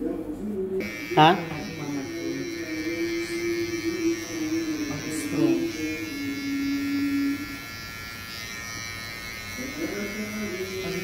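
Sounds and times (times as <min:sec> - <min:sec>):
electric hair clipper buzzing: 0:00.8 - 0:11.0.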